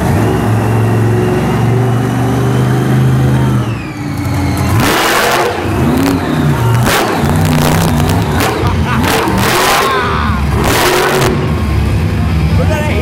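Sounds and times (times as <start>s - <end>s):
loud rush of noise: 0.0s - 13.0s
monster truck engine revving: 0.0s - 13.0s.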